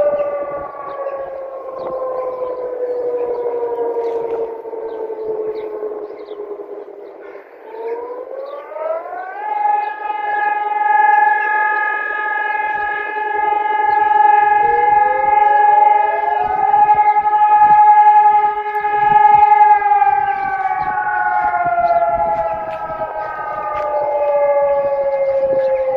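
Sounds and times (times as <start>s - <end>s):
civil defence sirens: 0.0s - 25.9s.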